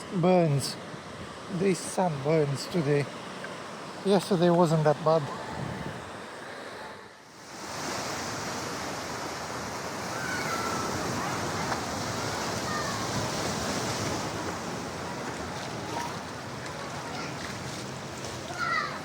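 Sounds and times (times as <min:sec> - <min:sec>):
waves washing onto beach: 0:00.0 - 0:19.0.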